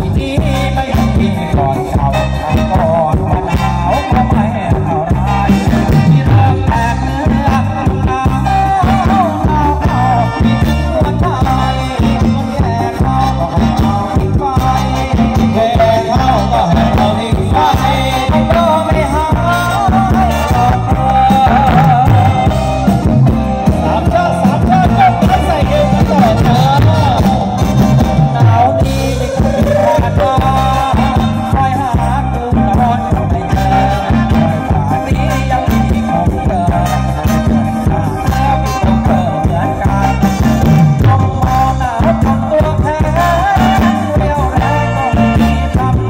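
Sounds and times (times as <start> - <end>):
dance band music over loudspeakers: 0.0 - 46.0.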